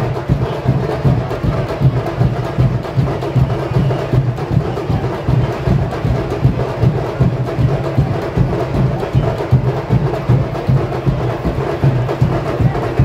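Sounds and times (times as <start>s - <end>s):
deep drum beats: 0.0s - 13.0s
samba percussion: 0.0s - 13.0s.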